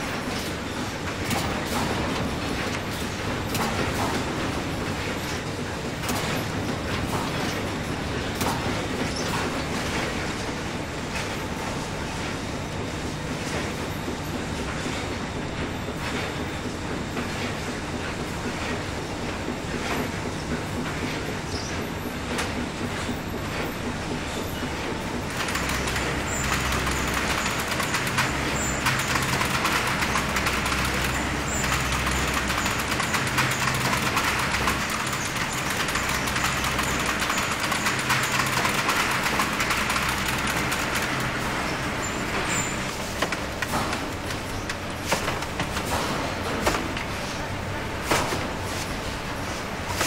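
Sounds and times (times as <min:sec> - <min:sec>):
machinery hum with hiss: 0:00.0 - 0:50.0.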